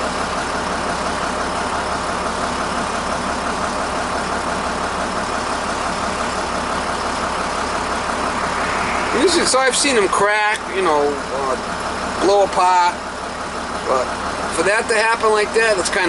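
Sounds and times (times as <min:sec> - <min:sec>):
oil burner rushing hum: 0:00.0 - 0:14.6.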